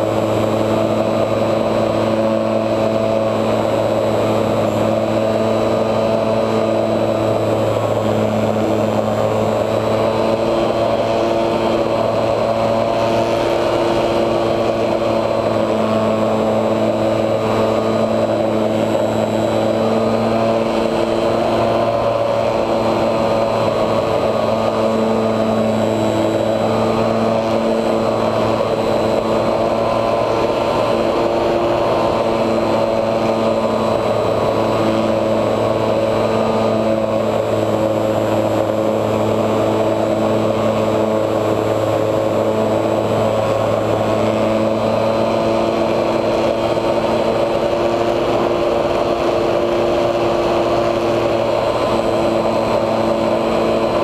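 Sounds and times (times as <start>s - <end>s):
electric motor and propeller buzzing: 0.0s - 54.0s.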